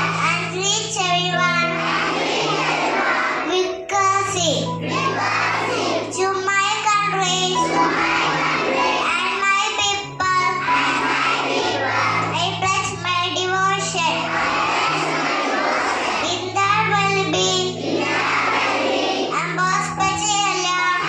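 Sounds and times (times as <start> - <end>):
children singing in unison: 0.0 - 0.7, 1.3 - 3.8, 4.6 - 13.0, 13.8 - 20.0.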